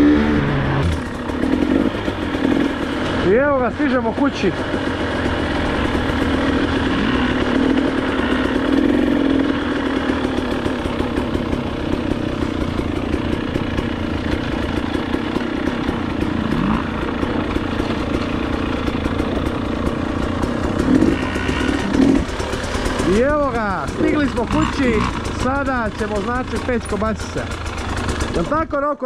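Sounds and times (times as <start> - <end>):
mini dirt bike engine: 0.0 - 28.8
dirt bike engine running: 0.0 - 28.9.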